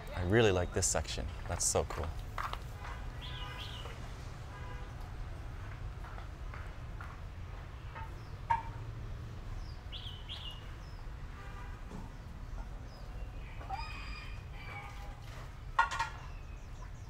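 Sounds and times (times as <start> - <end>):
birds calling: 0.0 - 5.5, 7.2 - 17.0.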